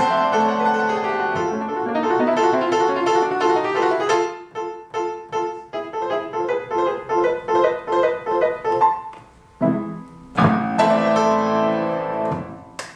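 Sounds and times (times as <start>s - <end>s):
piano music: 0.0s - 12.8s.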